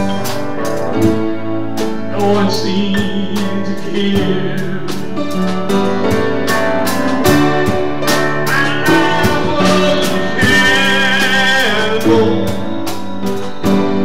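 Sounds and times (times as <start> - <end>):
church band music: 0.0 - 14.0
electric guitar: 0.0 - 14.0.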